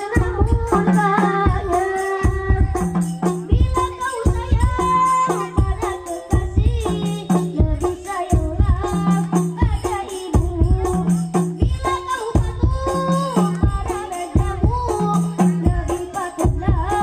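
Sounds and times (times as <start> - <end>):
hand drums beating a rhythm: 0.0 - 17.0
jingling percussion: 0.0 - 17.0
person singing: 0.0 - 17.0.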